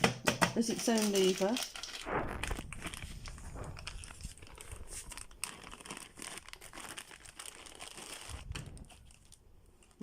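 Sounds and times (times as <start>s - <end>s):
packaging crinkling: 0.8s - 10.0s.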